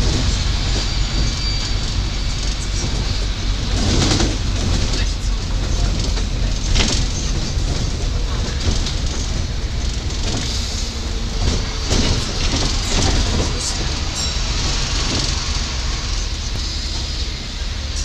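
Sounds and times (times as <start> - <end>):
bus rumble: 0.0 - 18.0
bus windows rattling: 0.0 - 18.0.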